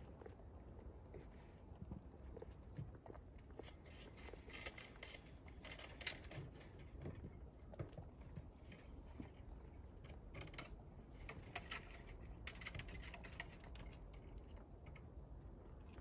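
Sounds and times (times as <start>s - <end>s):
rabbits rustling: 0.0s - 15.1s.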